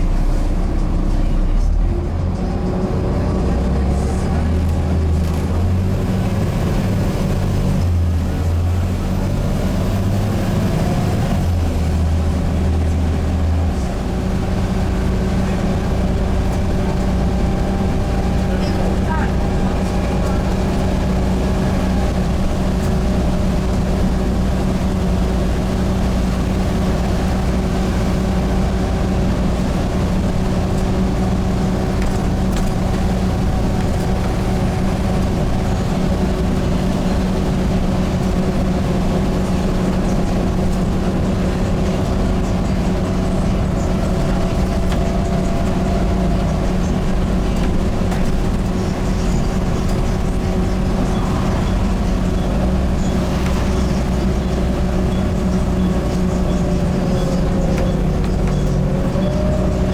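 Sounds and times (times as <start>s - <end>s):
diesel bus engine running: 0.0s - 59.9s
low rumble: 0.0s - 59.9s.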